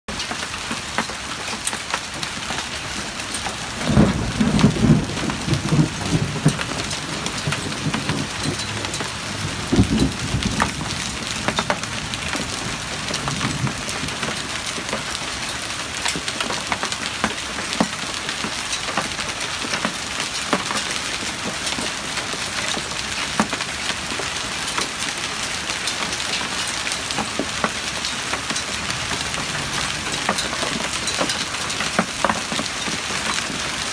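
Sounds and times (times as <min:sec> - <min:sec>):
heavy rain on pavement: 0:00.1 - 0:33.9
hail ticking: 0:00.2 - 0:33.9.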